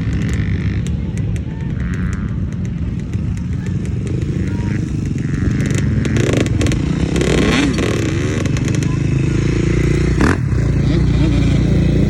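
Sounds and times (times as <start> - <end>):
small atv engine running: 0.0 - 12.0.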